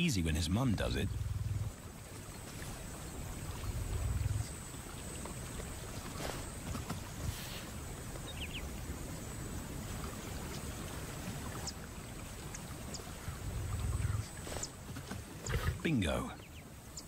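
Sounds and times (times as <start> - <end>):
water sloshing and splashing: 0.8 - 15.8.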